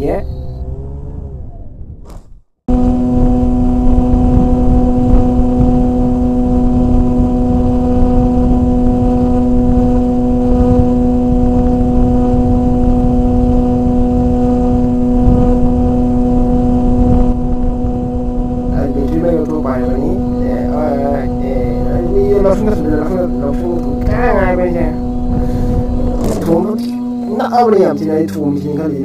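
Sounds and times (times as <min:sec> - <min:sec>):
drone humming: 0:00.0 - 0:29.0
wind buffeting microphone: 0:00.1 - 0:28.9.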